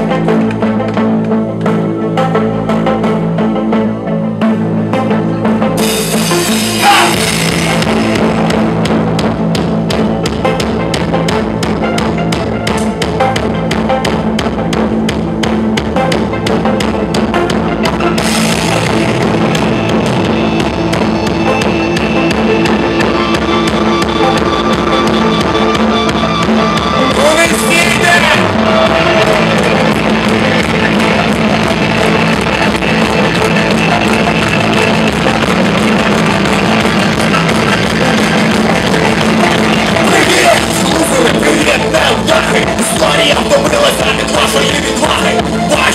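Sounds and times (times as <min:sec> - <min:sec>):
electric guitar: 0:00.0 - 0:45.9
drum kit: 0:05.8 - 0:45.9.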